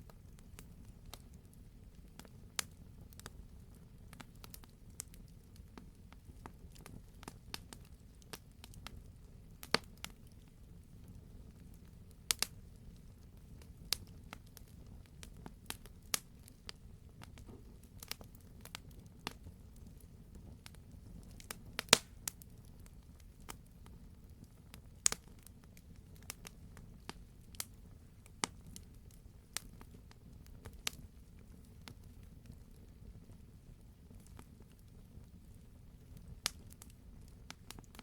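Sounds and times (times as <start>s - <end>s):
low rumble of flame: 0.0s - 38.0s
wood fire crackling: 0.0s - 38.0s.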